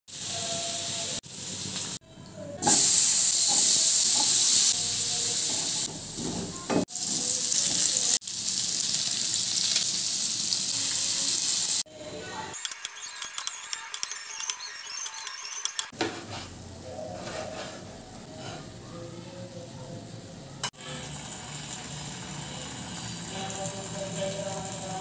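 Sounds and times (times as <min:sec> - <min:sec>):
food sizzling in a wok: 0:00.1 - 0:02.0, 0:02.6 - 0:12.5, 0:15.9 - 0:25.0.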